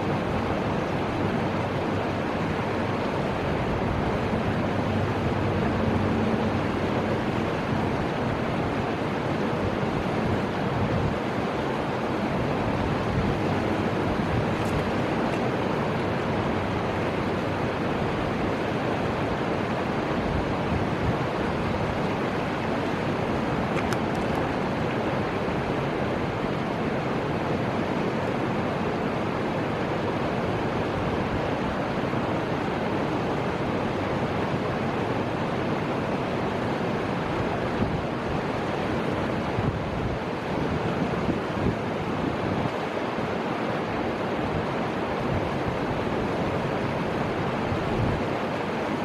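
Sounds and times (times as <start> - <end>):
river water rushing: 0.0 - 49.0
wind: 0.0 - 49.0.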